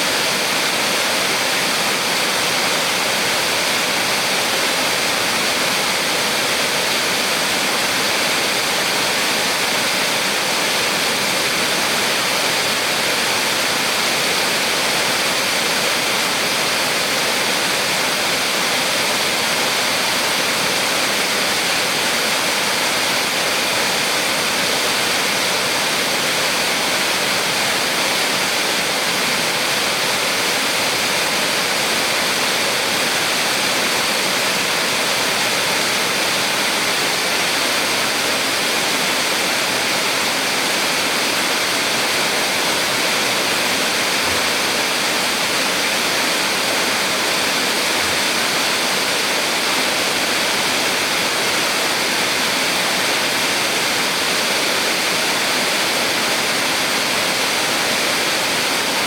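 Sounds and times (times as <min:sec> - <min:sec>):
water rushing and splashing: 0:00.0 - 0:59.0.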